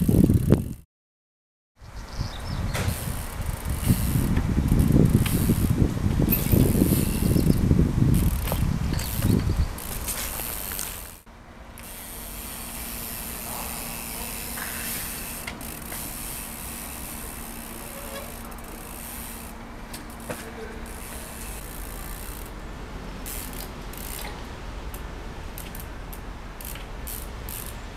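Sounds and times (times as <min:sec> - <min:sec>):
freewheel ratchet ticking: 0:02.9 - 0:22.6, 0:23.2 - 0:27.8.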